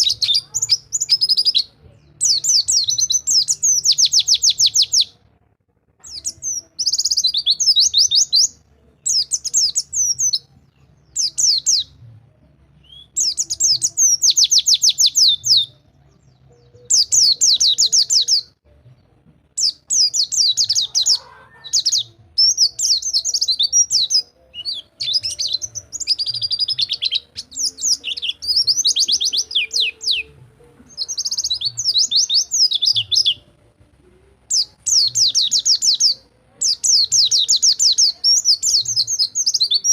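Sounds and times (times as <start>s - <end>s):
bird singing rapid high trills: 0.0s - 5.2s, 6.0s - 11.9s, 12.8s - 15.8s, 19.6s - 33.5s, 34.5s - 39.9s.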